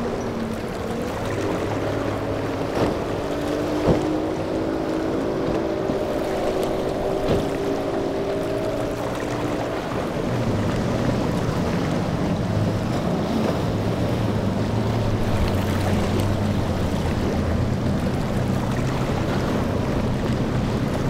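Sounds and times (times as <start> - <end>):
outboard engines droning: 0.0 - 21.0
waves splashing: 0.0 - 21.0
wind buffeting microphone: 0.0 - 21.0.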